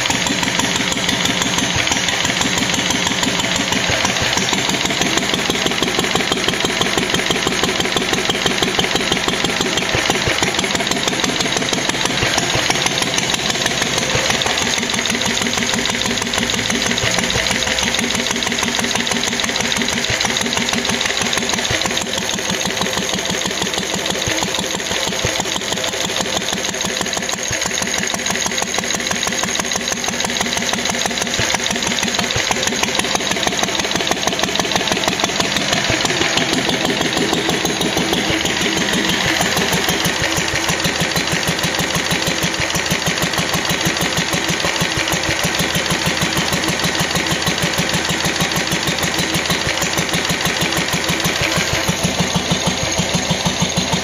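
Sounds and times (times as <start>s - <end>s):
stationary engine running: 0.0s - 54.0s.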